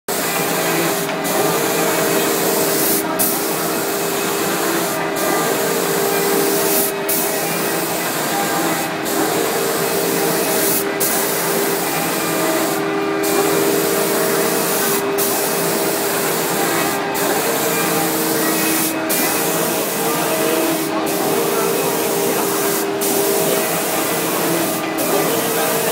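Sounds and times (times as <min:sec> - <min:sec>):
spray guns hissing: 0:00.1 - 0:25.9
machine hum: 0:04.1 - 0:25.9.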